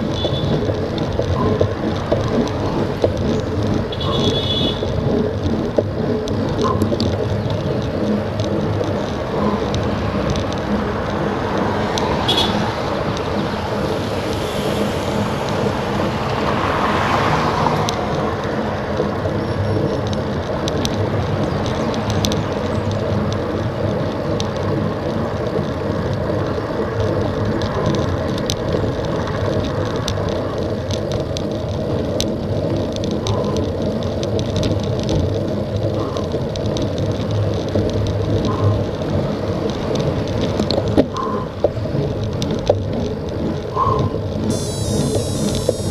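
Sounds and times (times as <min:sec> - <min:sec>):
bicycle road noise: 0:00.0 - 0:45.9
light ticks: 0:00.0 - 0:45.9
wind noise: 0:00.0 - 0:45.9.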